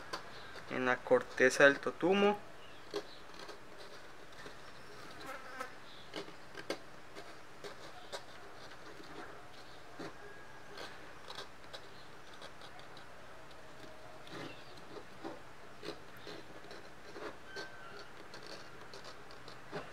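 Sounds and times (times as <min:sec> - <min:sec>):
gouge scraping gourd shell: 0:00.0 - 0:19.9.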